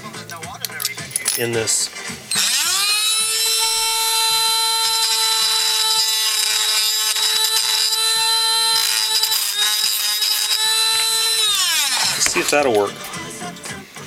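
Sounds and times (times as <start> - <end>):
rotary tool whining: 1.1 - 13.5.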